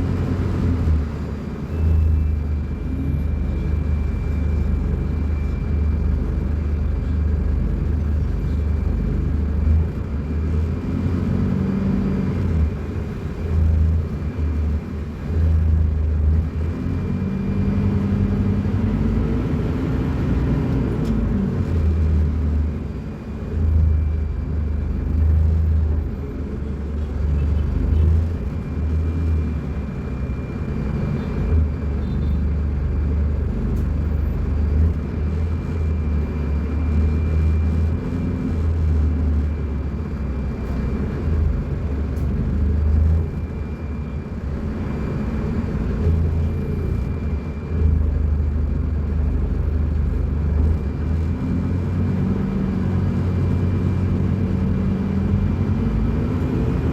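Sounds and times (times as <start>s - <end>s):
bus diesel engine rumbling: 0.0s - 56.9s.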